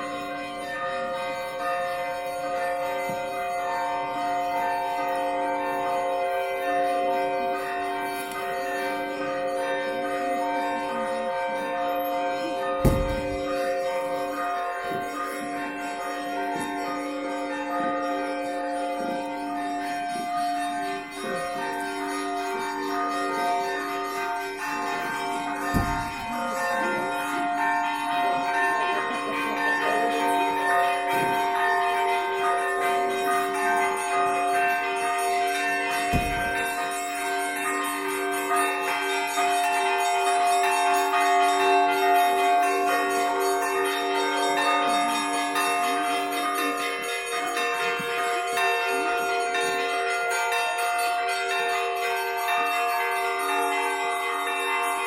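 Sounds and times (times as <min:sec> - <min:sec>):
church bells ringing in a peal: 0:00.0 - 0:55.0.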